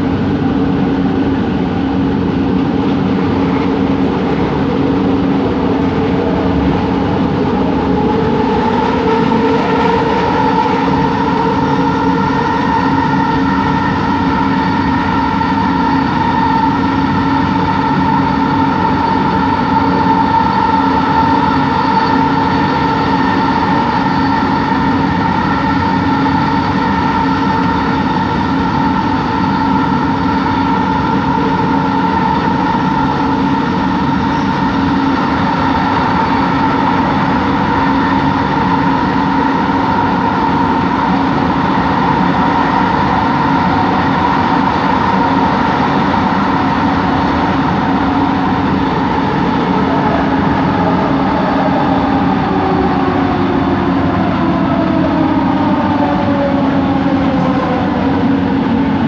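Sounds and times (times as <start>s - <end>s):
train motor whine: 0.0s - 59.0s
train running rumble: 0.0s - 59.0s.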